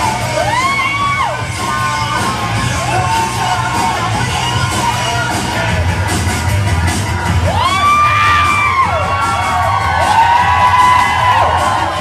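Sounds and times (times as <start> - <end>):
loud pop music with vocals: 0.0 - 12.0.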